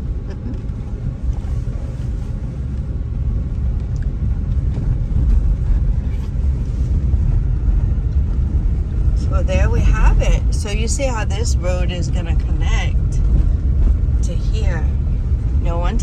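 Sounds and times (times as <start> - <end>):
car engine rumble: 0.0 - 16.0
tyre noise on road: 0.0 - 16.0.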